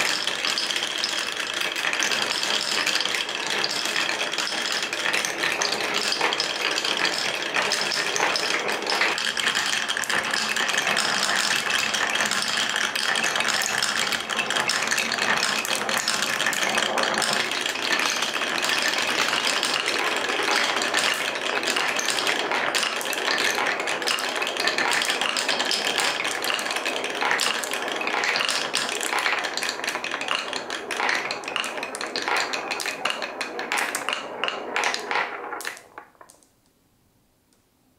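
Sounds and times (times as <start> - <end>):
marbles clicking and clacking: 0.0 - 36.5
marbles rolling through wooden blocks: 0.0 - 36.5.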